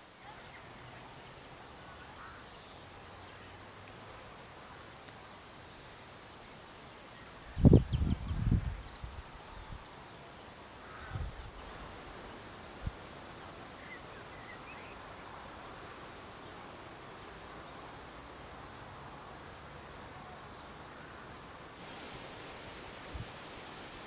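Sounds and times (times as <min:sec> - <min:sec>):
breeze rustling trees: 0:00.0 - 0:24.0
bright steady hiss: 0:00.0 - 0:24.0.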